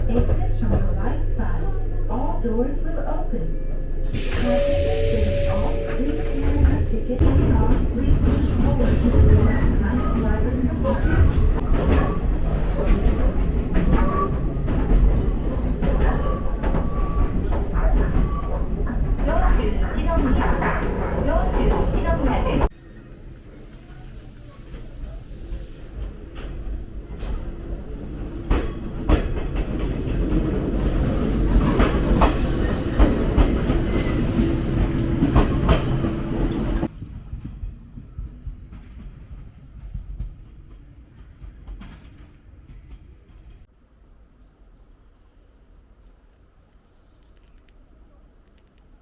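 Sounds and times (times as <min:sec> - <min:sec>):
electric train rumbling: 0:00.0 - 0:46.8.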